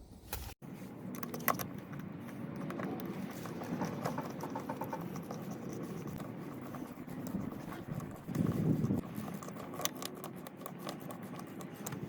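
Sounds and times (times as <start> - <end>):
hand tool clicks and scraping: 0.3 - 12.0.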